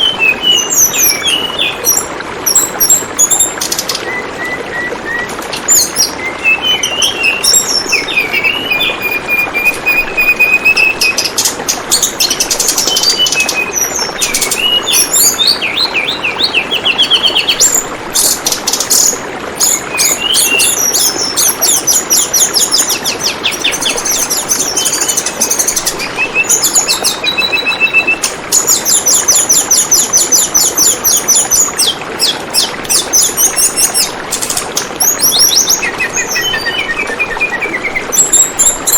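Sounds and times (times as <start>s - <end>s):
gurgling flowing water: 0.0s - 38.9s
songbird singing trills: 0.0s - 38.9s.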